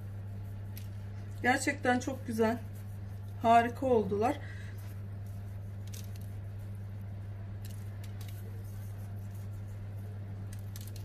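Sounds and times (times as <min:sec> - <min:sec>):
seeds pattering onto dough: 0:00.0 - 0:11.0
steady low hum: 0:00.0 - 0:11.0.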